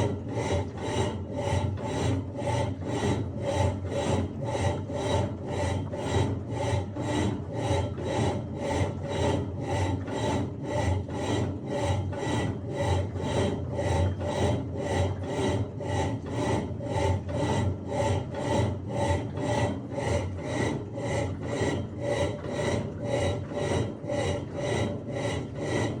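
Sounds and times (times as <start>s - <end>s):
washing machine agitating water: 0.0s - 26.0s.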